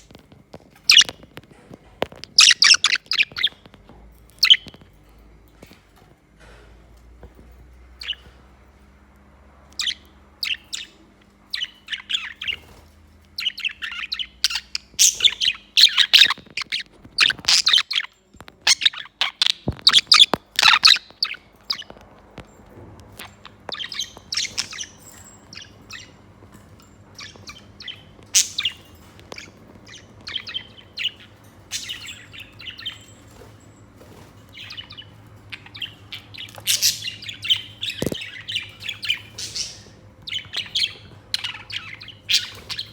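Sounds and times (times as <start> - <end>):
budgies chirping: 0.0 - 5.0, 7.2 - 9.0, 9.7 - 42.9.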